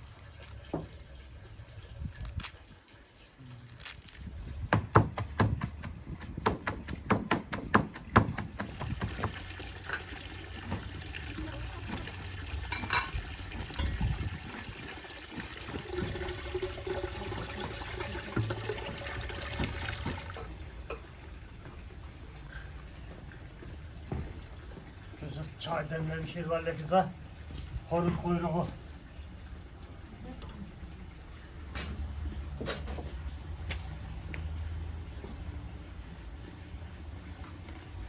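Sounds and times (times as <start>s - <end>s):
water pouring and splashing: 0.0s - 38.0s.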